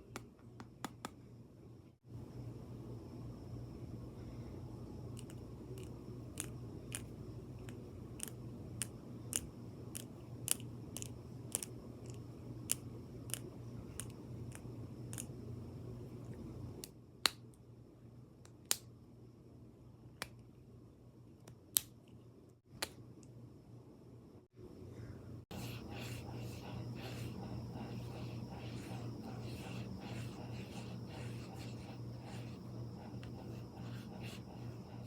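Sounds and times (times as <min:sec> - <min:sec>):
low steady hum: 0:01.2 - 0:35.0.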